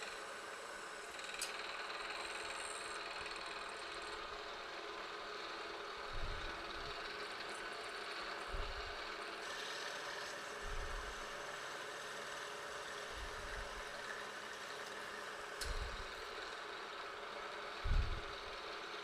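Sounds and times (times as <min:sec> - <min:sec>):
milling machine spindle cutting: 0:00.0 - 0:18.6.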